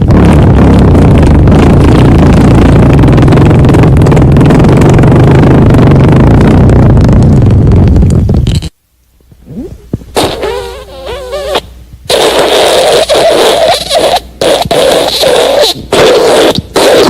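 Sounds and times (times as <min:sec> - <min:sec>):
fart sound: 0:00.0 - 0:17.0.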